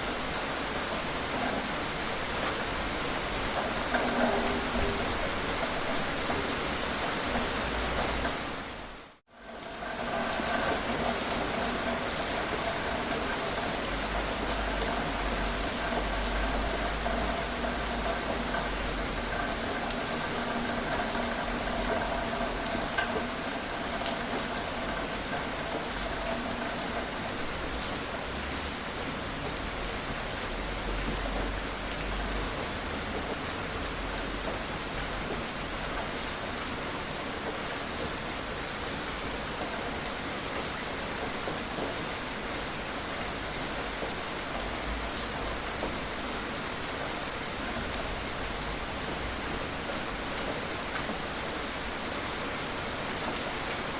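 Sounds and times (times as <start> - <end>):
gentle rain falling: 0.0 - 53.9.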